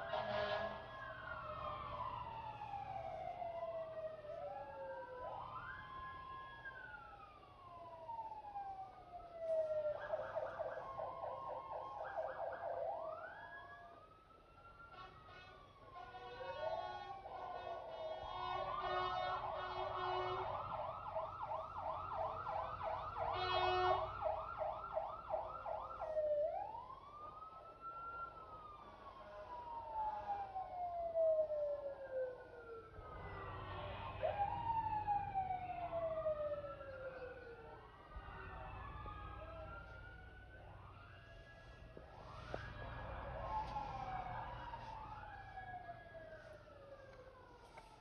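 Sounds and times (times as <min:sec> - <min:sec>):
fire truck siren: 0:00.0 - 0:48.0.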